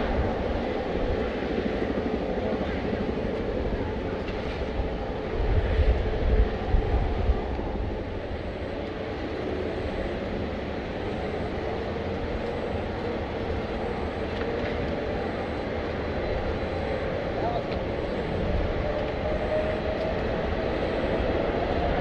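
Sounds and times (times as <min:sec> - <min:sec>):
jet engine noise: 0:00.0 - 0:22.0.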